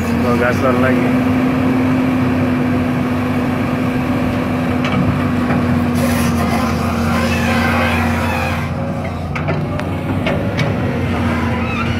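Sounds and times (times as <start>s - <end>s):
excavator diesel engine droning: 0.0s - 11.9s.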